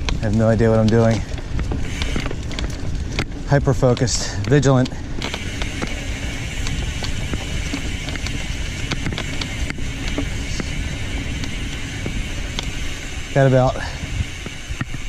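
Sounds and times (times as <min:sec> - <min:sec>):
bicycle tyre rumble on trail: 0:00.0 - 0:15.0
bike clicks and knocks: 0:00.0 - 0:15.0
wind: 0:00.0 - 0:15.0.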